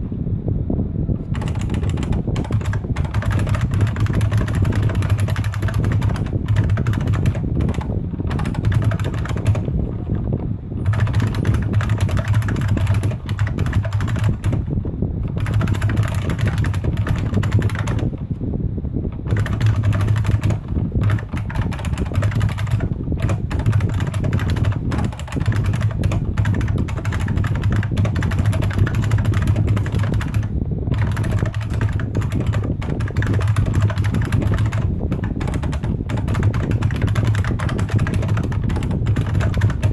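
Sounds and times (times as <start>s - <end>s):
steady low hum: 0.0s - 39.9s
keyboard key clicks: 1.3s - 10.2s, 10.8s - 14.6s, 15.3s - 18.1s, 19.3s - 39.9s.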